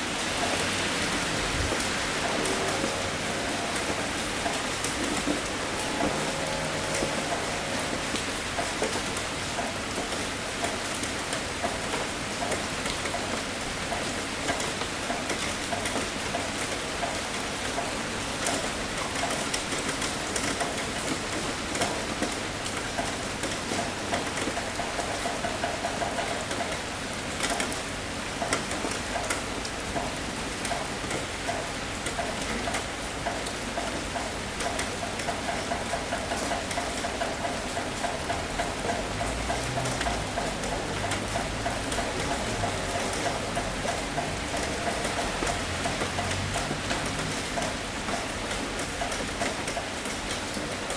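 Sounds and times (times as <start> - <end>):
raindrops ticking close by: 0.0 - 50.9
steady rainfall: 0.0 - 50.9.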